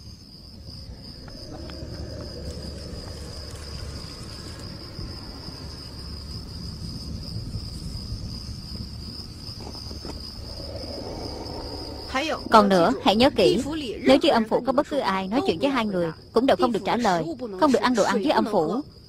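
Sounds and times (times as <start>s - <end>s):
crickets chirring: 0.0s - 19.0s
low rumble: 0.6s - 16.5s.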